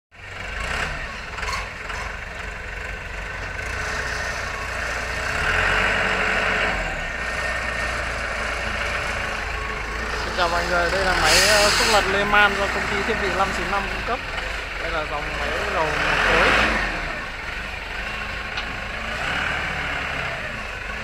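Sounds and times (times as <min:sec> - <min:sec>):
wheel loader diesel engine: 0:00.1 - 0:21.0.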